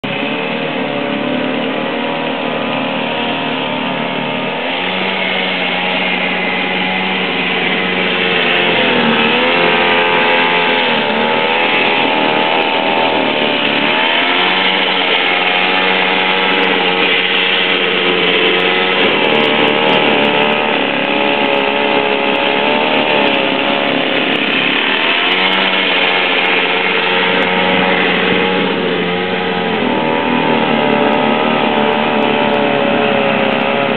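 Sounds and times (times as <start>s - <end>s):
small engine running: 0.0s - 33.9s.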